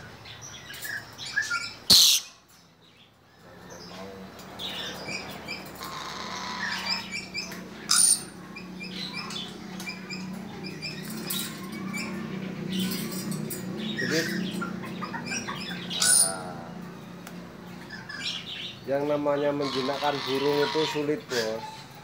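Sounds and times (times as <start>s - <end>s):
parrots chirping: 0.2s - 3.1s, 3.7s - 22.0s.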